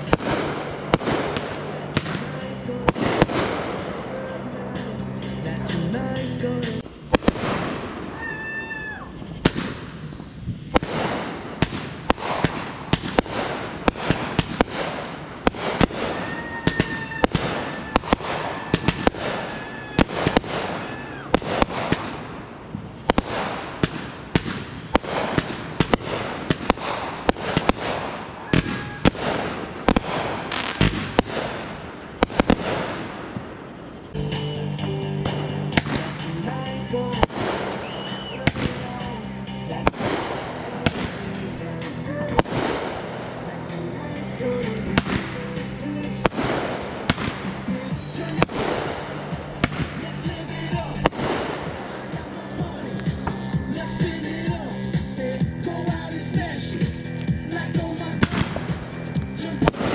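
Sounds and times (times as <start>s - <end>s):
fireworks thumps and bangs: 0.0s - 4.3s, 9.4s - 10.0s, 10.6s - 33.6s, 34.8s - 43.4s, 44.6s - 54.6s, 57.2s - 59.9s
fireworks whistling: 0.0s - 59.9s.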